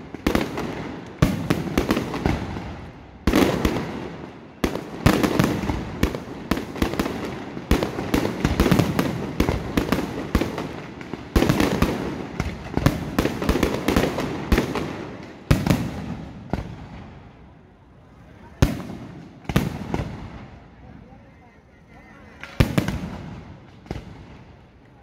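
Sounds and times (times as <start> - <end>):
firework bursts and bangs: 0.0 - 17.6, 18.5 - 20.9, 22.4 - 25.0.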